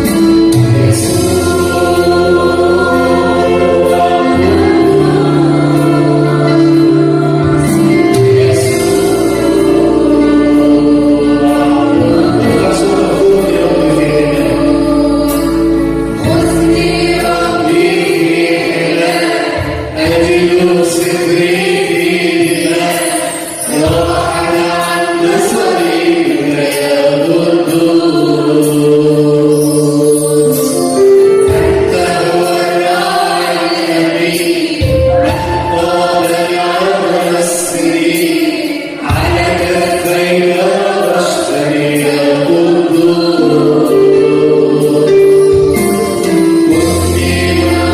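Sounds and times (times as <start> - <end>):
instrumental backing with beat: 0.0 - 37.4, 38.0 - 47.9
choir singing a hymn: 0.0 - 47.9.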